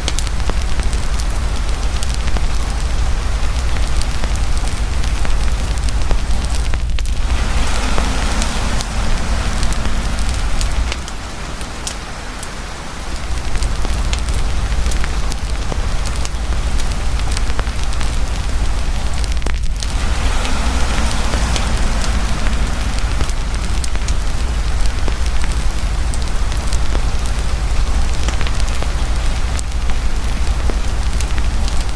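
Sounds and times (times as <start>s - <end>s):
campfire crackling and popping: 0.0s - 31.9s
heavy rain pouring: 0.0s - 31.9s
deep low rumble: 0.2s - 31.9s.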